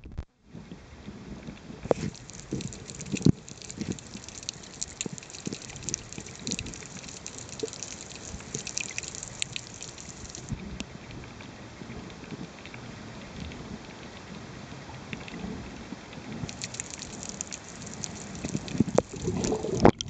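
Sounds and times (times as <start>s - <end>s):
underwater clicks and crackles: 1.4s - 20.0s.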